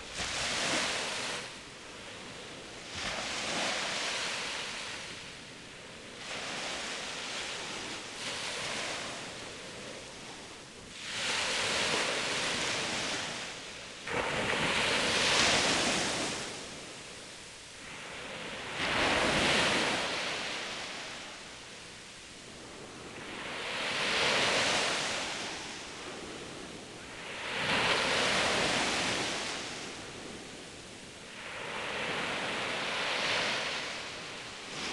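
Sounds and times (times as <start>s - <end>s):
waves breaking on beach: 0.0s - 34.9s.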